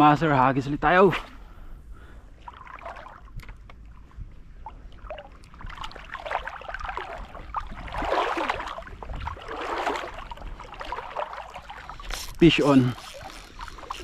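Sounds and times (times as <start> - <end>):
water lapping and sloshing: 0.9 - 14.0.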